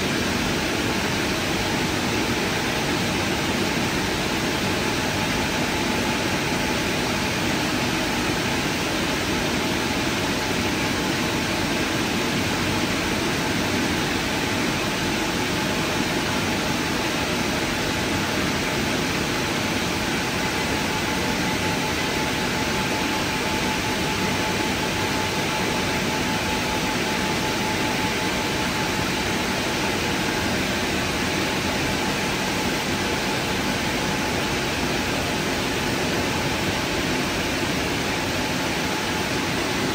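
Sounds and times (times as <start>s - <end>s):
car wash drying blowers: 0.0s - 39.9s
faint steady whine: 0.0s - 39.9s.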